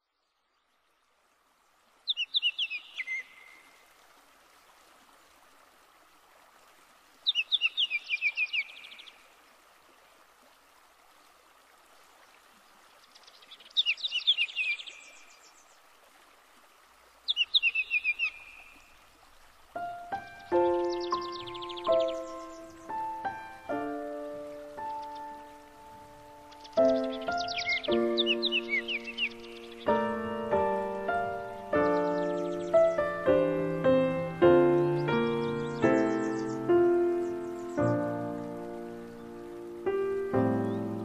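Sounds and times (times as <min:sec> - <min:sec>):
songbird singing: 0:00.0 - 0:04.0, 0:07.2 - 0:09.5, 0:12.0 - 0:16.1, 0:17.1 - 0:41.0.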